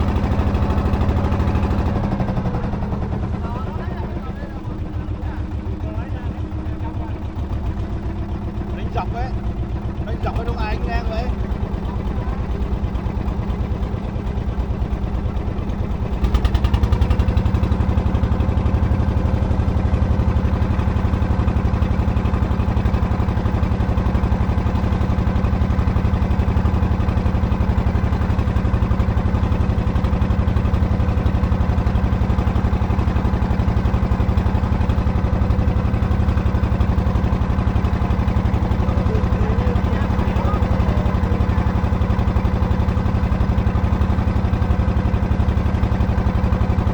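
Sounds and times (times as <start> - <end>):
boat motor droning: 0.0 - 46.9.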